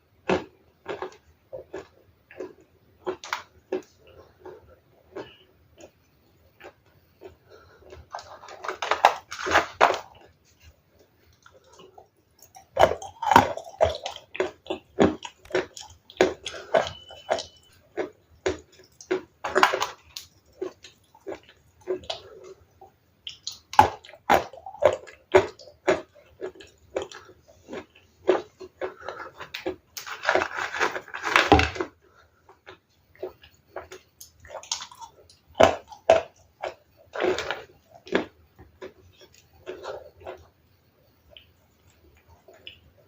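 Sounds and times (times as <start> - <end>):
ice being chewed: 0.3 - 40.5, 41.3 - 43.0.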